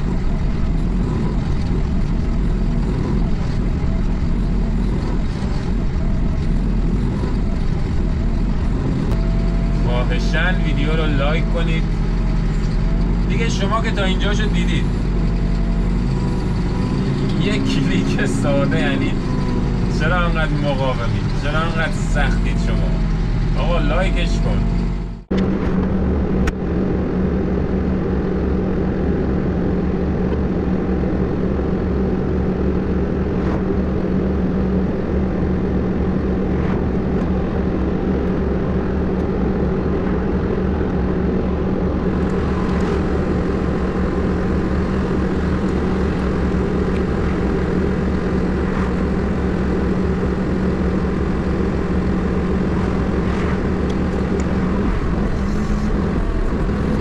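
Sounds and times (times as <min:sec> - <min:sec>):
diesel engine idling: 0:00.0 - 0:27.3, 0:30.8 - 0:57.0.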